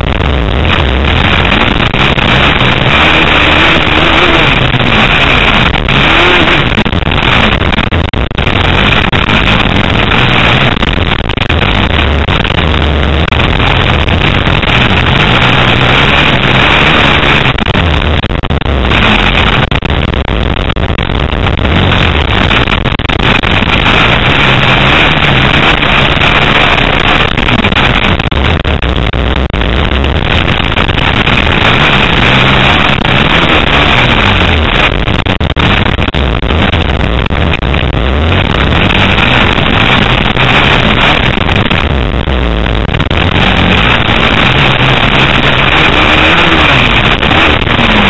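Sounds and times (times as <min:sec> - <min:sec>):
motocross bike engine revving: 0:00.0 - 0:48.0.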